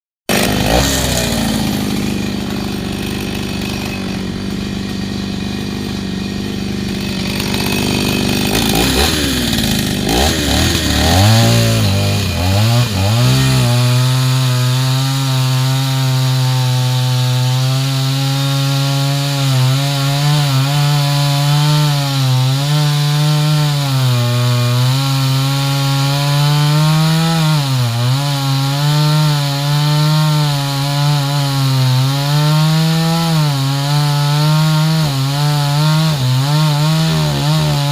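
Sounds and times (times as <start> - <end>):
chainsaw cutting wood: 0.3 - 37.9.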